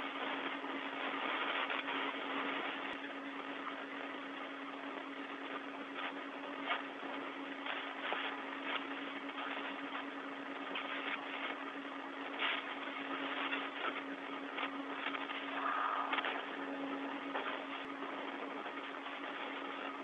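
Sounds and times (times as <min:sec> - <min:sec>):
radio crackles: 0:00.0 - 0:20.0
radio hiss with low hum: 0:00.0 - 0:20.0.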